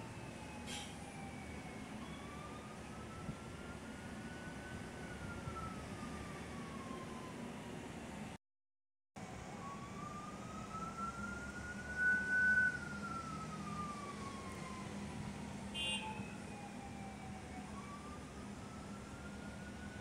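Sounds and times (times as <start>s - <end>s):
emergency siren wailing: 0.0s - 7.7s, 9.2s - 20.0s
heavy road traffic hum: 0.0s - 8.4s, 9.2s - 20.0s.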